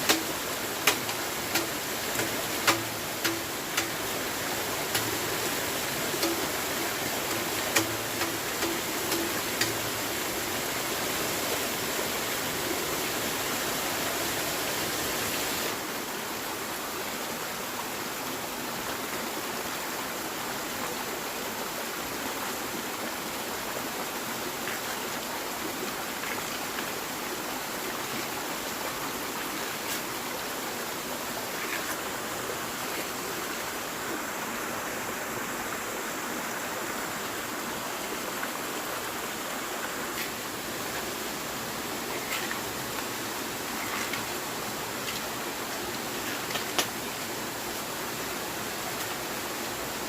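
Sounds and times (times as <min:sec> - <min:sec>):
rushing water: 0:00.0 - 0:50.0.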